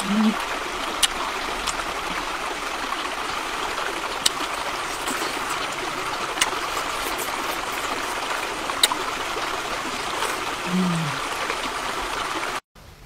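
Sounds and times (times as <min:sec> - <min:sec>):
stream rushing: 0:00.0 - 0:12.6.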